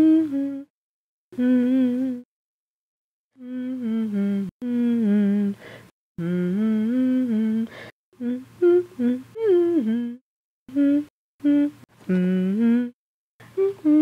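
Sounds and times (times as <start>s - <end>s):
person humming: 0.0s - 0.7s, 1.4s - 2.3s, 3.4s - 14.0s.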